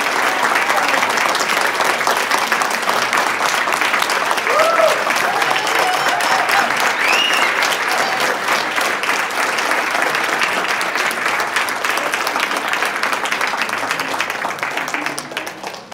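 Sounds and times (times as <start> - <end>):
audience applause: 0.0 - 15.9.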